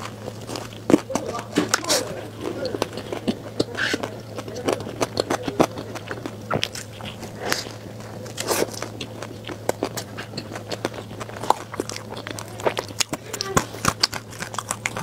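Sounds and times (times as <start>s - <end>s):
biting and chewing pastry: 0.0s - 15.0s.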